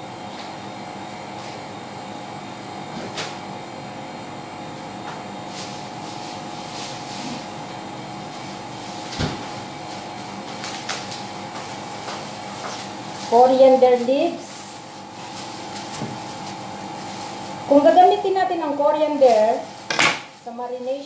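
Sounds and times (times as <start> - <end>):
kitchen appliance hum: 0.0 - 21.0.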